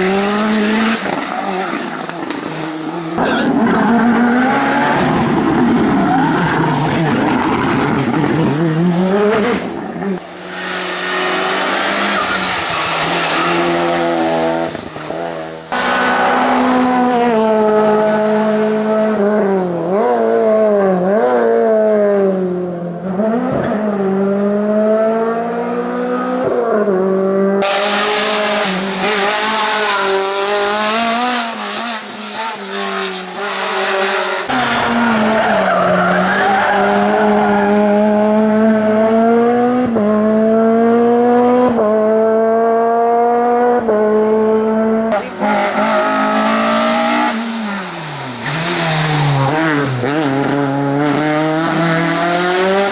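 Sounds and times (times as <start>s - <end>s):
race car engines at high revs: 0.0s - 52.9s.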